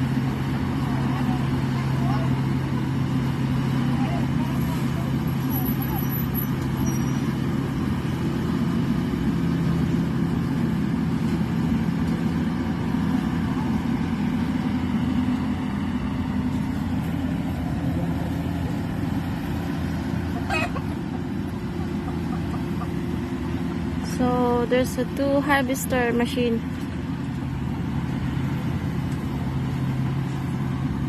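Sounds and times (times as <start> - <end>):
harvester engine droning: 0.0 - 31.0.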